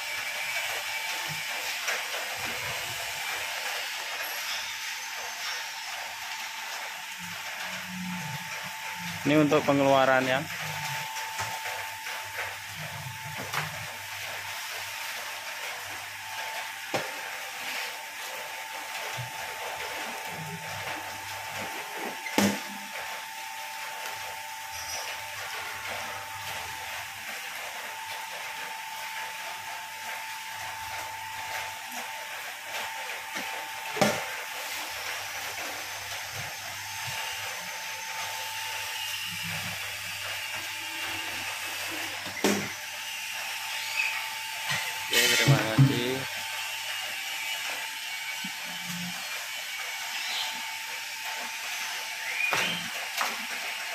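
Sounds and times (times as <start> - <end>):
mixer machine whine: 0.0 - 53.9.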